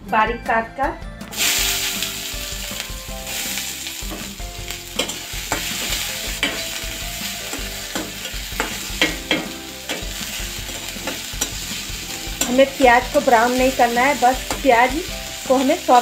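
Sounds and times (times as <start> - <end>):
metal spatula scraping pan: 1.3 - 15.5
onion sizzling in hot oil: 1.3 - 16.0.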